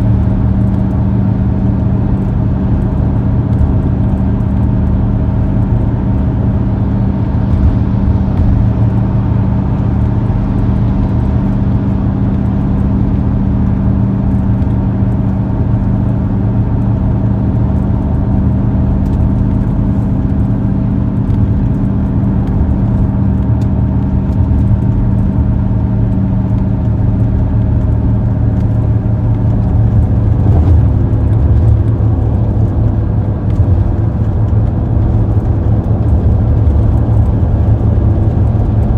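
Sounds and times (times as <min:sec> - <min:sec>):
car engine drone: 0:00.0 - 0:38.9
road noise: 0:00.0 - 0:38.9.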